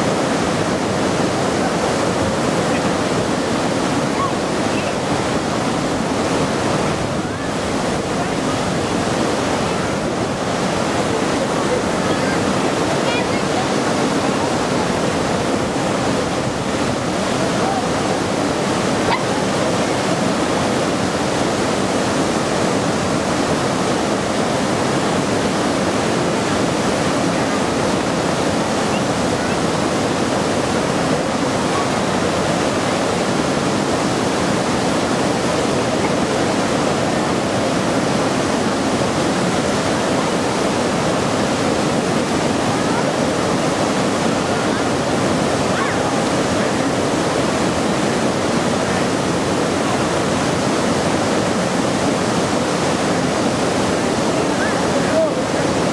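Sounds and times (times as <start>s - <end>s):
waterfall roar: 0.0s - 55.9s.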